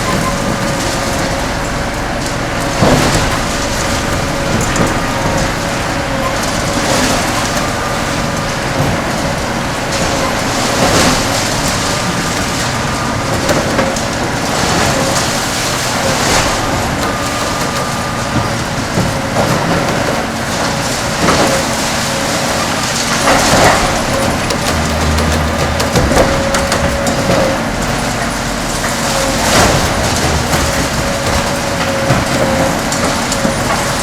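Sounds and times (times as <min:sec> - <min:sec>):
excavator diesel engine and hydraulics: 0:00.0 - 0:34.0.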